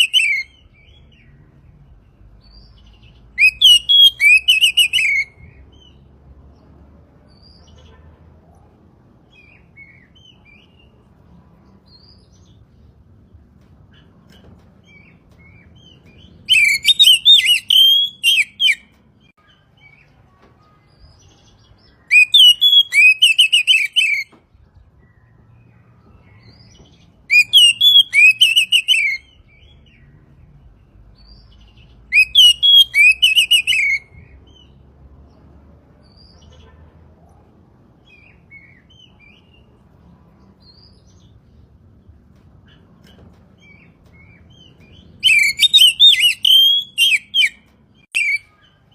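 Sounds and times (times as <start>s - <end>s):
bird singing rapid phrases: 0.0s - 6.7s, 11.9s - 35.4s, 37.8s - 48.9s.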